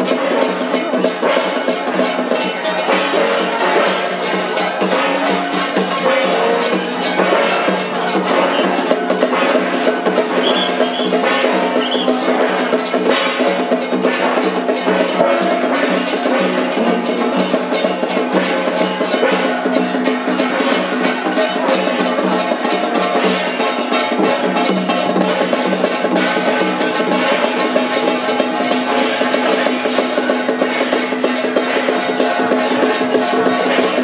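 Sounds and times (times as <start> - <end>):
procession drums and gongs: 0.0 - 34.0.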